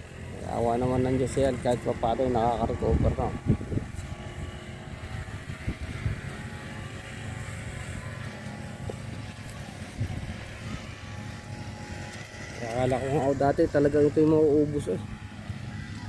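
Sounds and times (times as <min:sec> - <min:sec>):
brush cutter engine droning: 0:00.0 - 0:16.0.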